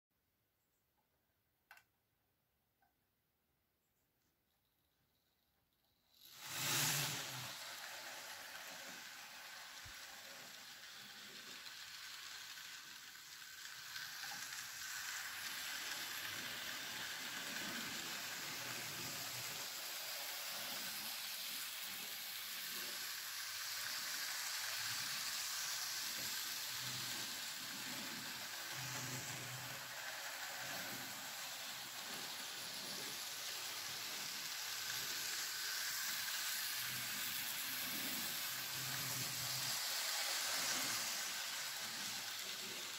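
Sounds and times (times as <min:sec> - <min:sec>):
model trains whirring on track: 0:05.2 - 0:42.9.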